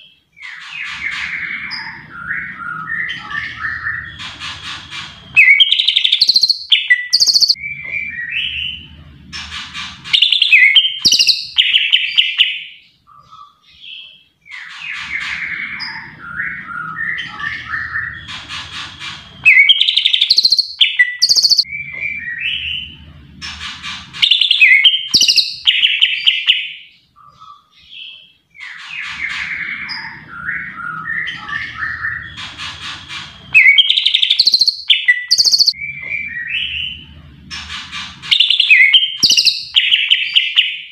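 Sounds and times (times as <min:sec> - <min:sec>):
bird chirps trills and whistles: 0:00.0 - 0:40.9.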